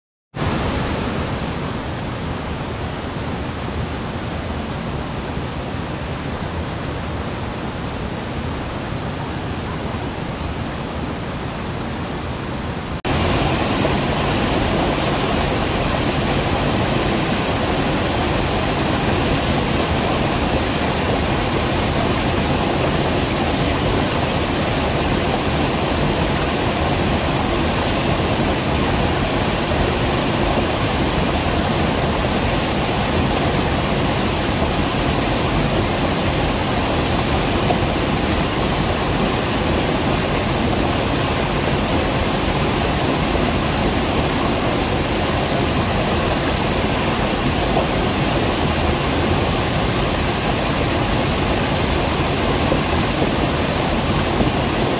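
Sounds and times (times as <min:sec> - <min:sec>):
stream water rushing over rocks: 0:00.4 - 0:54.9.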